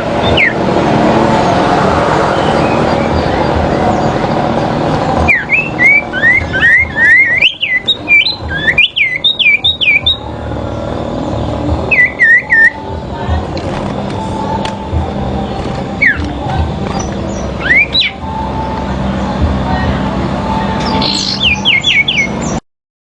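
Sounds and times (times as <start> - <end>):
birds singing whistled notes: 0.0 - 0.8, 2.2 - 13.2, 14.1 - 19.7, 20.4 - 22.6
loud rushing noise: 0.0 - 22.6.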